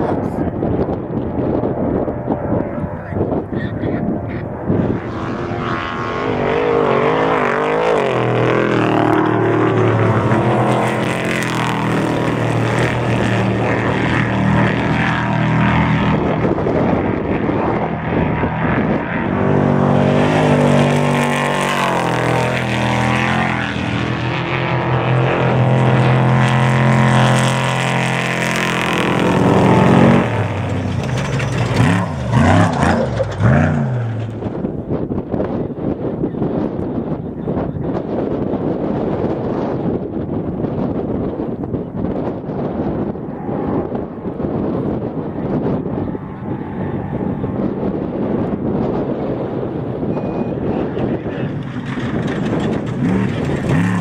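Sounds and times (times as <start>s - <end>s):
truck engine revving: 0.0s - 35.1s, 42.8s - 54.0s.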